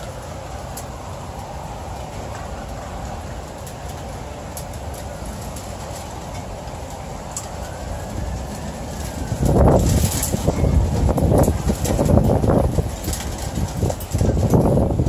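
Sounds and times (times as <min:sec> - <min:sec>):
steady low background noise: 0:00.0 - 0:15.0
thunder rumbling: 0:00.0 - 0:15.0.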